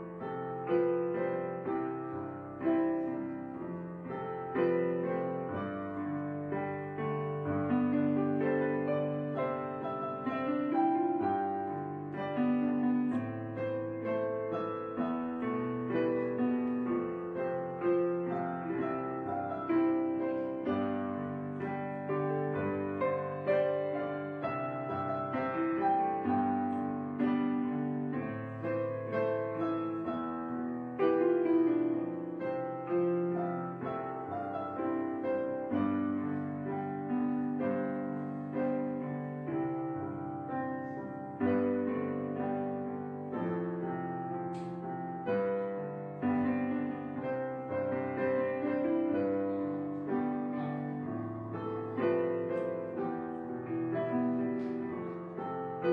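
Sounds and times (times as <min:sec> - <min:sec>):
gentle piano music: 0:00.0 - 0:55.9.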